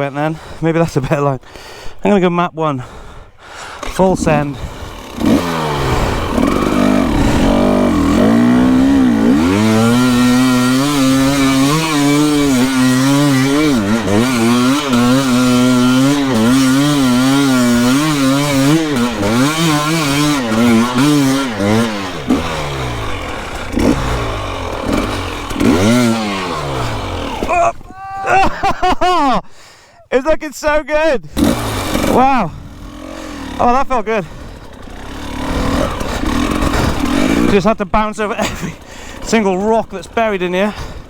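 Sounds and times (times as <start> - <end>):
dirt bike engine revving: 3.0 - 29.2, 31.3 - 41.0.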